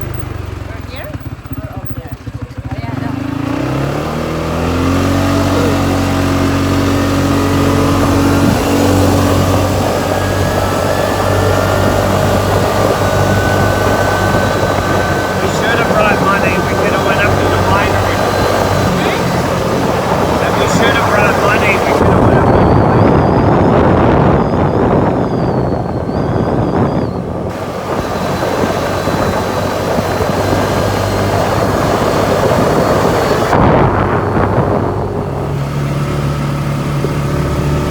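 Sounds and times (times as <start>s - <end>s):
atv engine running: 0.0s - 37.9s
wind noise on microphone: 3.4s - 37.9s.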